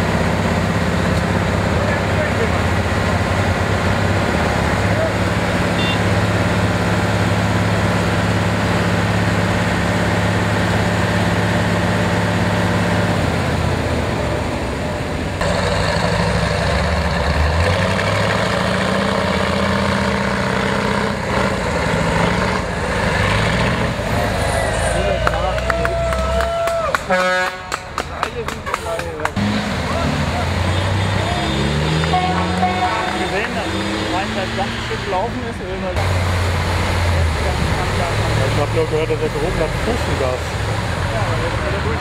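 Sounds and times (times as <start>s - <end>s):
heavier engine revving: 0.0s - 42.0s
off-road vehicle engines running: 0.0s - 42.0s.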